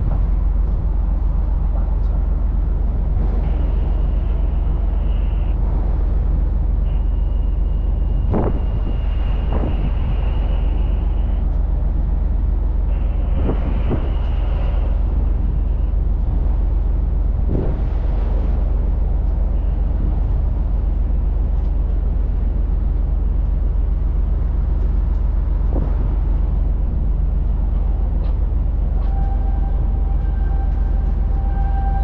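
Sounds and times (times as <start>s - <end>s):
strong wind on microphone: 0.0s - 32.0s.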